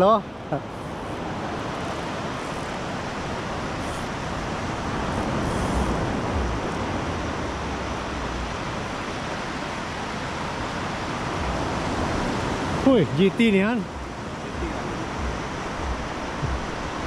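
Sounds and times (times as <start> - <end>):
surf washing up beach: 0.0 - 17.0
wind rumbling on microphone: 0.0 - 17.0.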